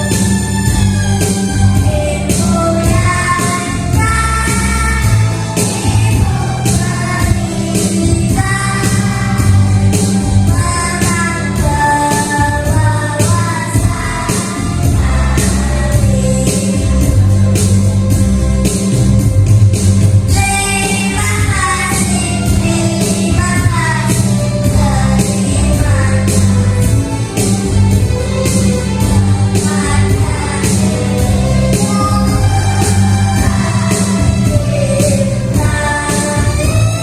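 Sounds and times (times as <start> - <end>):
instrumental accompaniment with beat: 0.0 - 37.0
children's choir singing: 1.7 - 17.3, 20.3 - 37.0.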